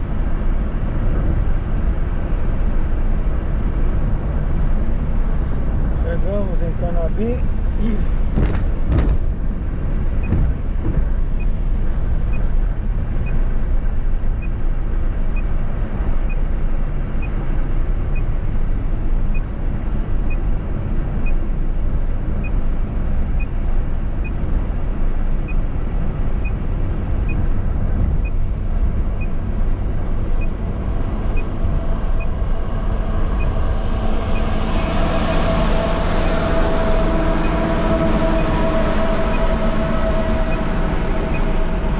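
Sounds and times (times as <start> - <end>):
heavy vehicle engine drone: 0.0 - 41.9
highway road and engine noise: 0.0 - 41.9.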